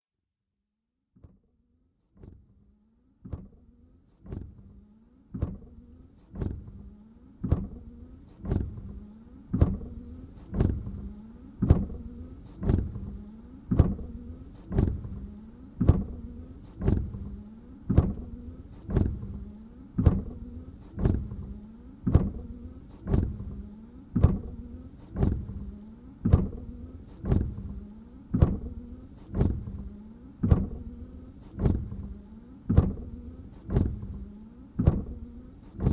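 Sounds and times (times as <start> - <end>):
wiper motor hum: 2.1 - 35.9
windshield wipers sweeping: 3.3 - 35.9
wiper knocking: 6.3 - 35.9.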